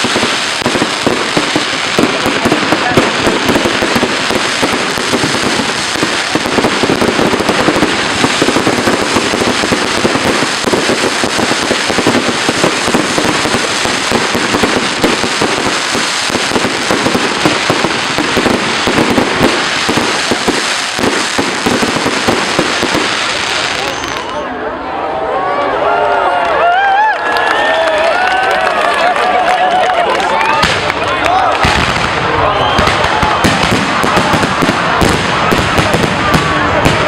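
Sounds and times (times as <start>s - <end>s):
fireworks crackling and popping: 0.0s - 24.4s, 27.6s - 37.0s.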